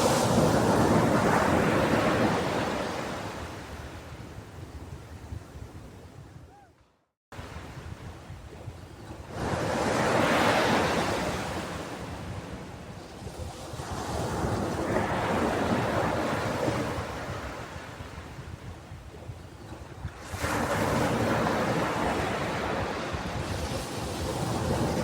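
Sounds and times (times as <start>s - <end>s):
ocean surf on a beach: 0.0s - 5.6s, 7.4s - 18.9s, 19.6s - 25.0s.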